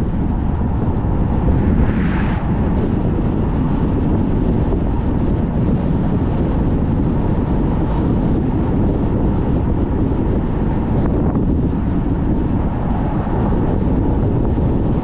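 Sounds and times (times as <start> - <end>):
road noise: 0.0 - 15.0
wind buffeting a moving car: 0.0 - 15.0.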